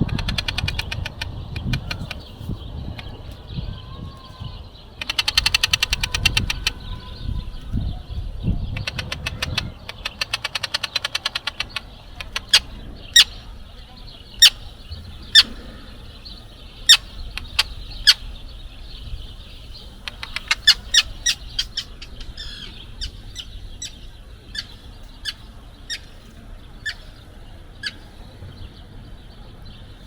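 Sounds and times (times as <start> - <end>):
gulls calling: 0.0 - 30.0.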